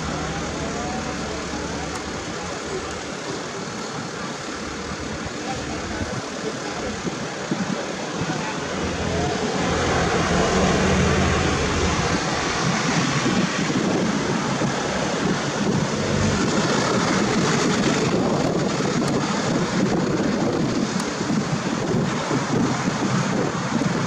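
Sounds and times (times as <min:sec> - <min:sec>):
vehicle engine humming low: 0:00.0 - 0:24.0
wind on microphone: 0:00.0 - 0:24.0.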